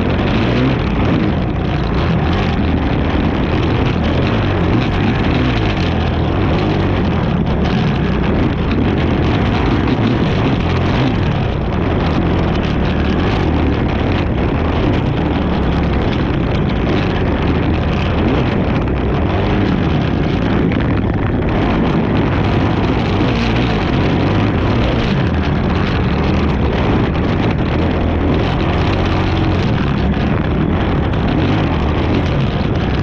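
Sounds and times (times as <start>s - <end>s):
atv engine running hard: 0.0s - 33.0s
wind noise on microphone: 0.0s - 33.0s.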